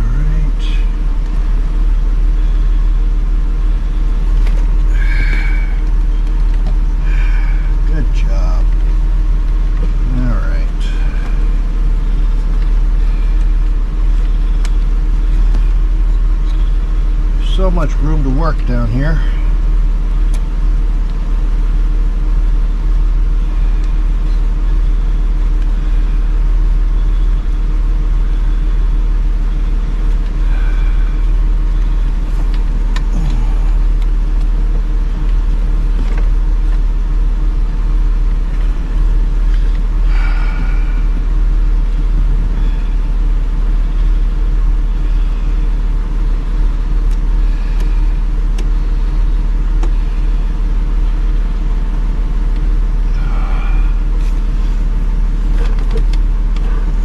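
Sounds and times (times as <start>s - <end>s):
low mechanical hum with tones: 0.0s - 57.0s.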